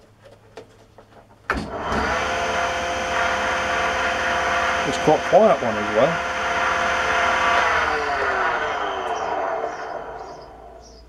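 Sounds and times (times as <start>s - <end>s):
table saw humming and whining: 1.5s - 11.0s.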